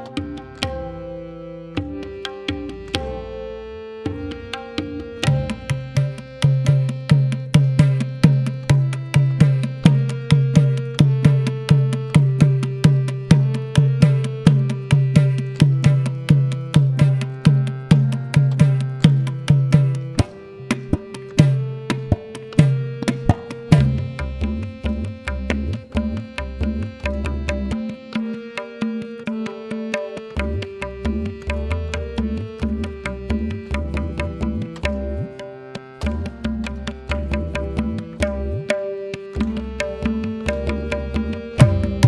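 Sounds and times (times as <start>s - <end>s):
harmonium melody: 0.0s - 42.0s.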